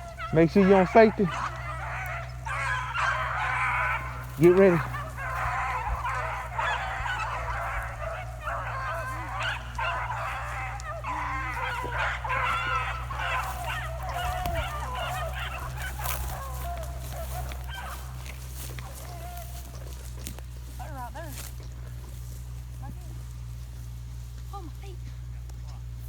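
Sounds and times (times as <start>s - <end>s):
pack of hounds baying: 0.0s - 26.0s.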